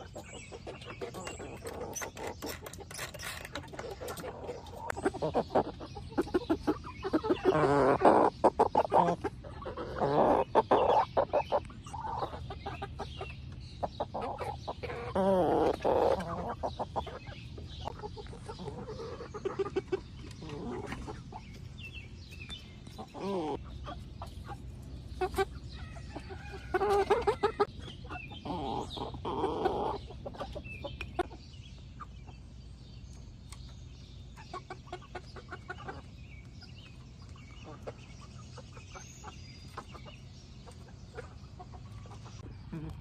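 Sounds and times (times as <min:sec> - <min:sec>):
young chickens clucking: 0:00.0 - 0:43.0.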